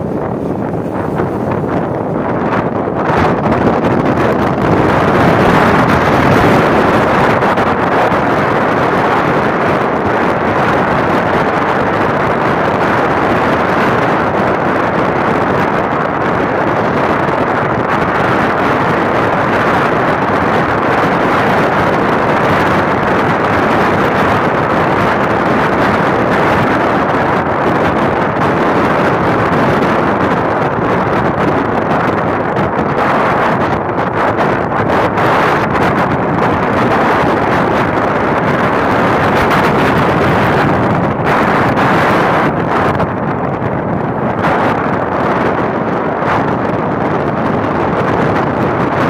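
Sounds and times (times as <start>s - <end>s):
motorcycle road noise: 0.0s - 49.0s
wind rushing over microphone: 0.0s - 49.0s.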